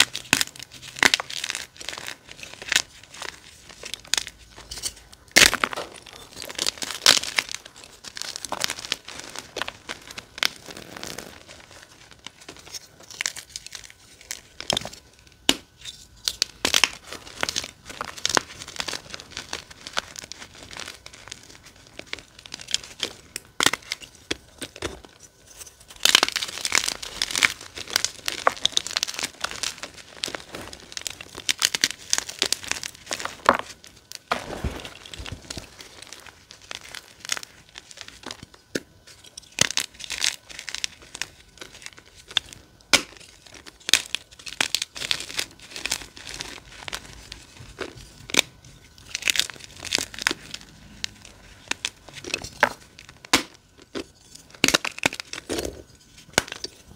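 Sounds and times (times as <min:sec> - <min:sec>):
chalk blocks crunching and crackling: 0:00.0 - 0:56.9.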